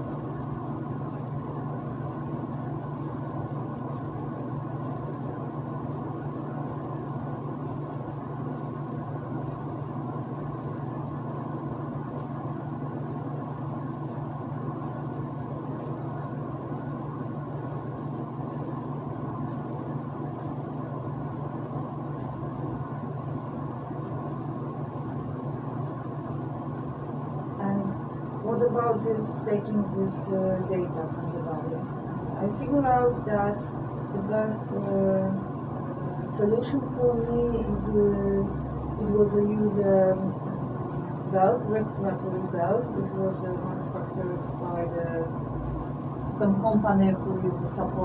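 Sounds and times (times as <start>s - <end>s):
mechanical hum with whine: 0.0s - 48.0s.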